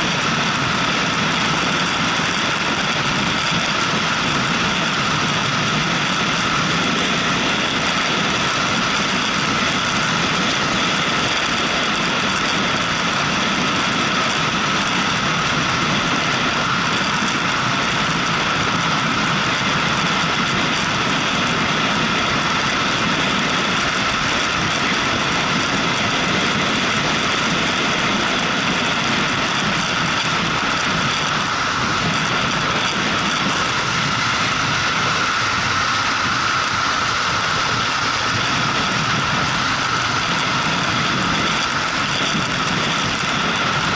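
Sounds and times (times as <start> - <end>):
even rushing noise: 0.0 - 43.9
motorcycle engine running: 0.0 - 43.9.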